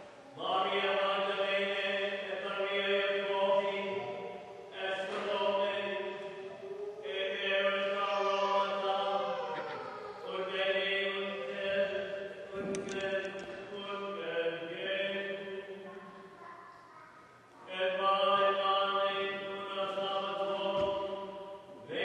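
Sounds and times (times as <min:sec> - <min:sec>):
plainchant singing: 0:00.0 - 0:16.4, 0:17.6 - 0:22.0.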